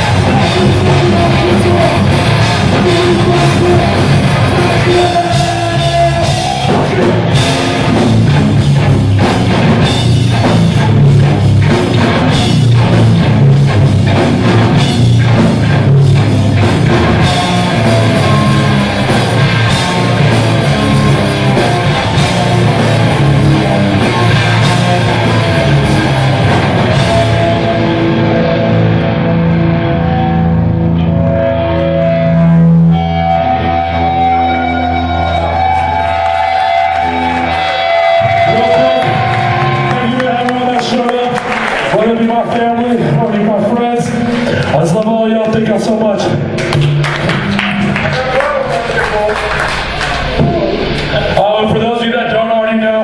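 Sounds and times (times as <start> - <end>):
drum kit pounding: 0.0 - 29.9, 34.6 - 44.4, 45.2 - 53.0
bass guitar: 0.0 - 53.0
distorted electric guitars: 0.0 - 53.0.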